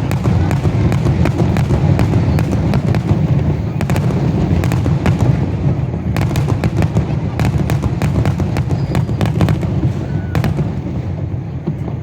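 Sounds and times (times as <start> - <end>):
fireworks booming: 0.0 - 12.0
sharp firework cracks: 0.0 - 12.0.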